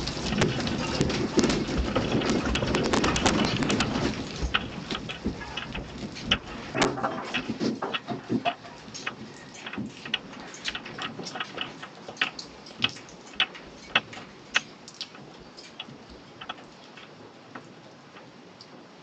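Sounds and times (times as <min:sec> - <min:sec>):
hard objects rattling: 0:00.0 - 0:17.2.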